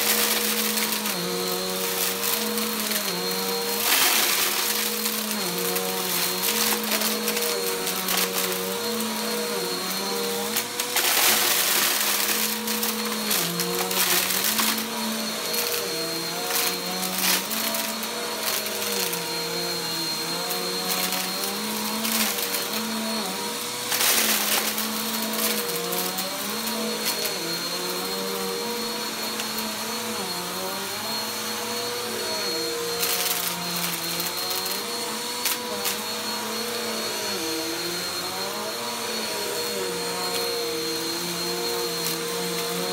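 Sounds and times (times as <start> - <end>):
vacuum cleaner running on carpet: 0.0 - 42.9.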